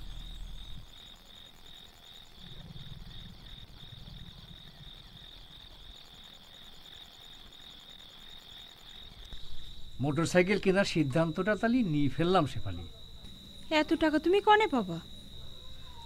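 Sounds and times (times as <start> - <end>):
crickets chirping: 0.0 - 16.0
high insect trill: 0.0 - 16.0.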